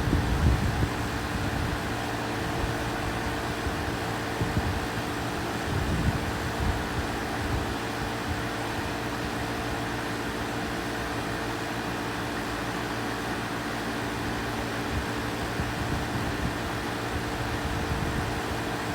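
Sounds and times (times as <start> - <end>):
air conditioner fan rush: 0.0 - 18.9
air conditioner hum: 0.0 - 18.9.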